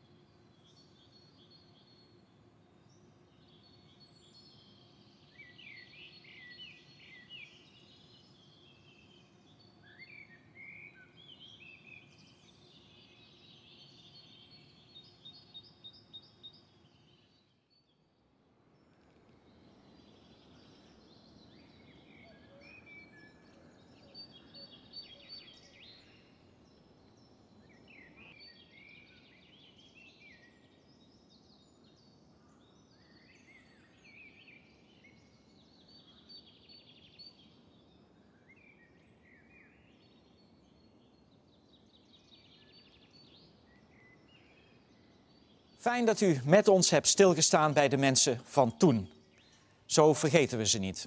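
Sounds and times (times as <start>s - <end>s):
quiet outdoor background noise: 0.0s - 51.0s
small birds chirping and warbling: 0.2s - 17.5s, 18.7s - 51.0s.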